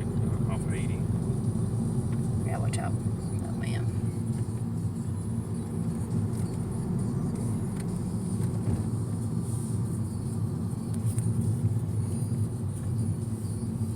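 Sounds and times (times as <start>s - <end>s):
car driving road and engine noise: 0.0s - 13.9s.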